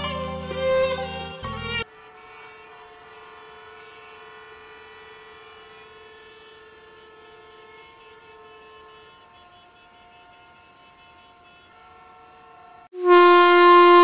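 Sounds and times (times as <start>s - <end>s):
street traffic: 0.0s - 13.6s.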